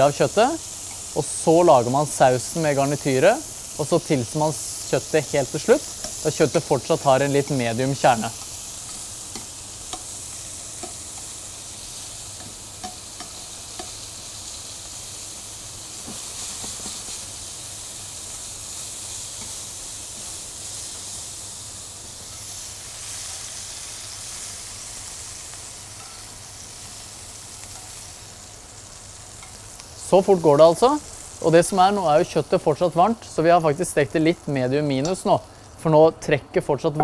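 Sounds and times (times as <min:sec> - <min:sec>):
meat sizzling in a frying pan: 0:00.0 - 0:37.0.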